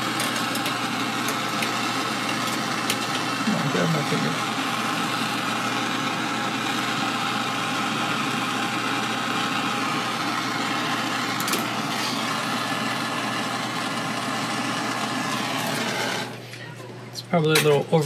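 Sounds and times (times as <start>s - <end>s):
gas torch hissing: 0.0s - 16.4s.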